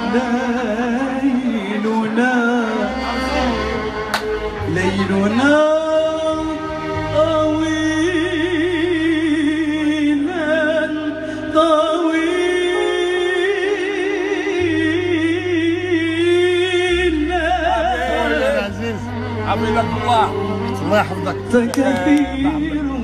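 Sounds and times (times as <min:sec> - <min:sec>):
low held bass notes: 0:00.0 - 0:23.0.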